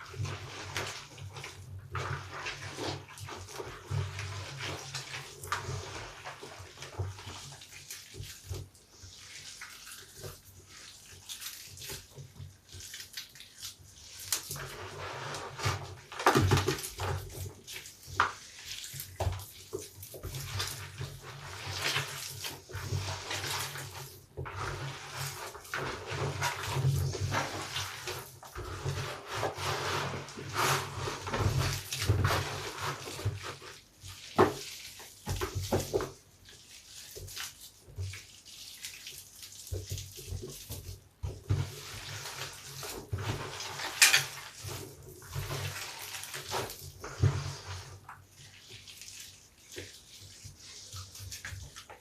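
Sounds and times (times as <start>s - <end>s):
soapy sponge squelching: 0.0s - 52.0s.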